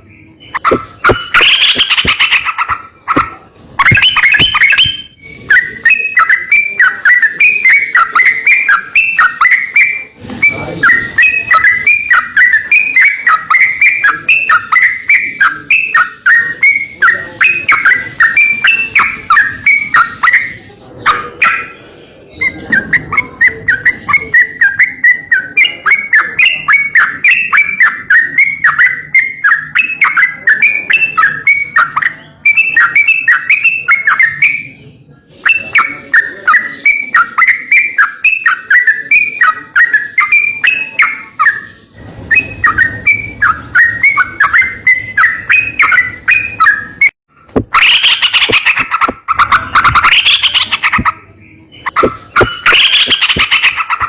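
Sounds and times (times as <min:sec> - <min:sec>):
harsh bird chatter: 0:00.0 - 0:54.0
songbird chirping: 0:00.0 - 0:54.0.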